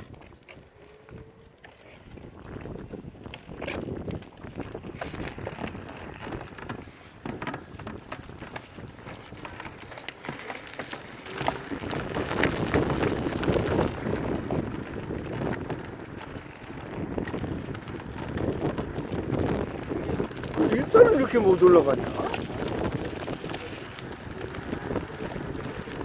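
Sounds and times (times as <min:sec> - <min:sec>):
tyres crunching over rocks: 0:00.0 - 0:26.0
wind rumbling on microphone: 0:00.0 - 0:26.0.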